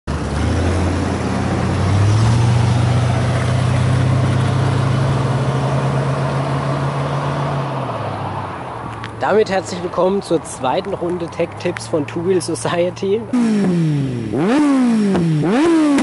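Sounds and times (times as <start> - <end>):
car engine under load: 0.1 - 12.2, 13.3 - 16.0.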